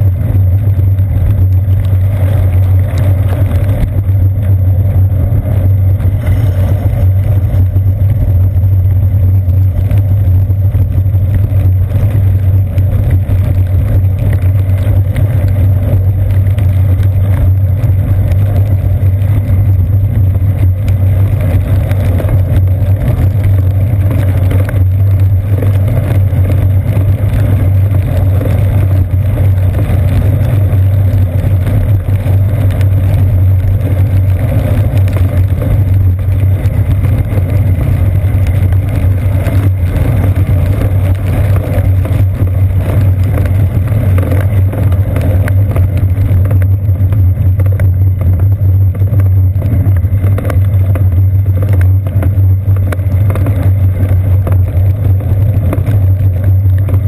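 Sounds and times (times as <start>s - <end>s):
bicycle rolling over wet pavement: 0.0s - 57.0s
hiss of tyre and rain: 0.0s - 57.0s.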